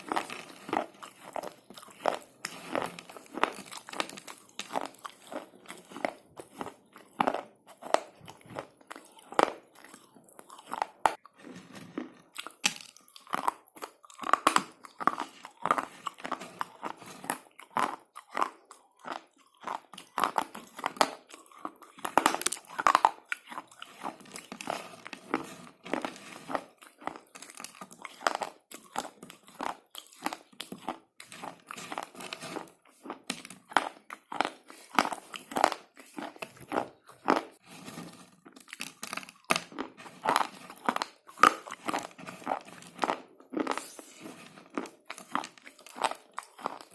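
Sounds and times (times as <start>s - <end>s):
chewing crunches: 0.0s - 46.9s.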